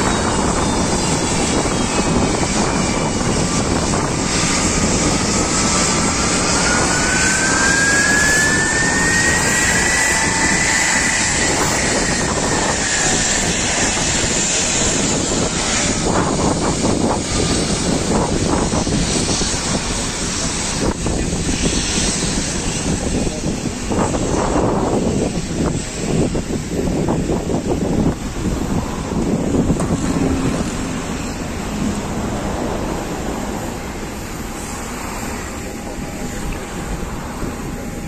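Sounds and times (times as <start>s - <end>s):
jet engines whining: 0.0s - 38.0s
wind buffeting microphone: 0.0s - 38.0s.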